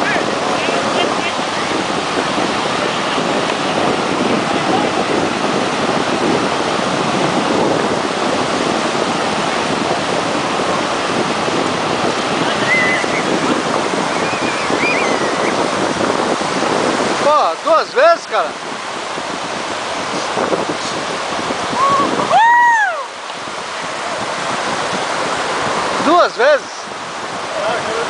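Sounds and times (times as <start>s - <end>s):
sea surf rushing: 0.0s - 28.0s
wind buffeting microphone: 0.0s - 28.0s.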